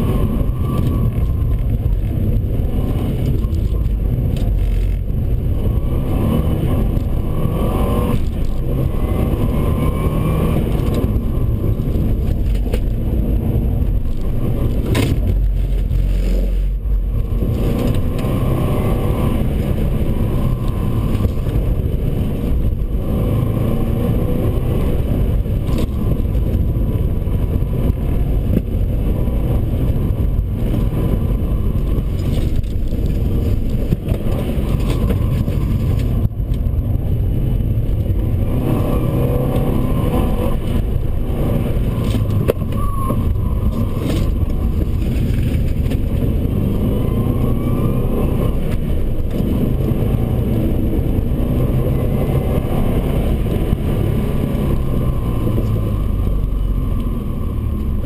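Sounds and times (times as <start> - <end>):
car engine revving: 0.0 - 58.0
tyre and road noise: 0.0 - 58.0.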